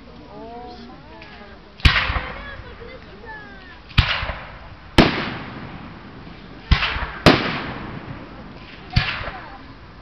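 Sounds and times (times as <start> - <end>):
firework shells bursting: 1.2 - 9.8.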